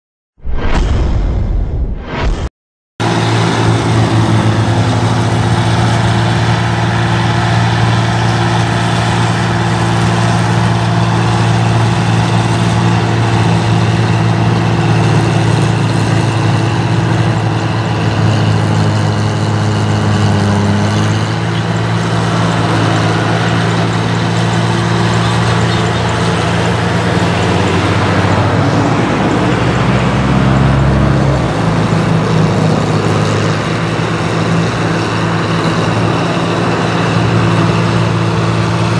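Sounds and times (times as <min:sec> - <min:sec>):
broad rushing noise: 0:00.4 - 0:38.9
combine harvester engine droning: 0:03.0 - 0:38.9.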